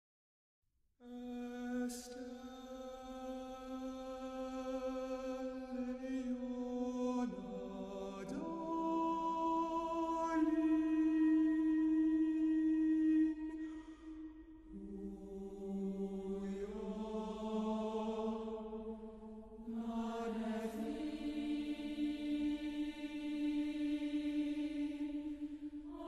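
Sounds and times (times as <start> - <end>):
slow sustained chant-like chords: 1.0 - 26.0.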